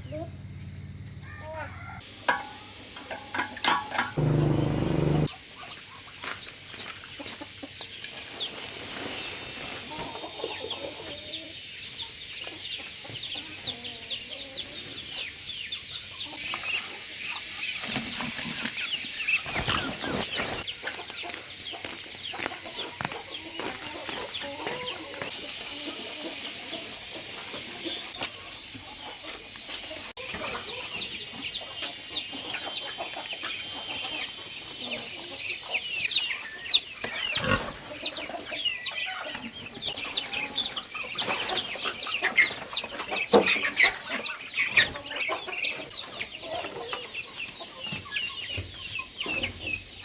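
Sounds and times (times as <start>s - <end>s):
chickens clucking and peeping: 0.0s - 50.0s.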